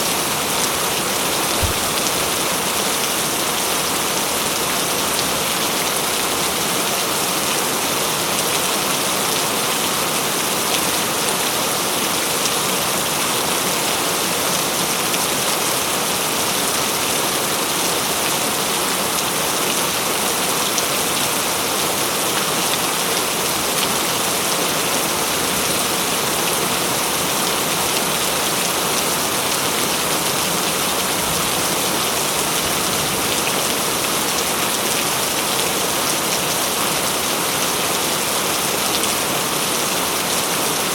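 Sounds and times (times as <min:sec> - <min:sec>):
heavy rain in forest: 0:00.0 - 0:40.9.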